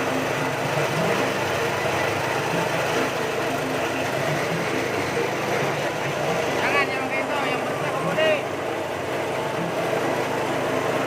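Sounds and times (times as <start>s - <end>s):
engine-driven grinding mill running: 0.0s - 11.0s.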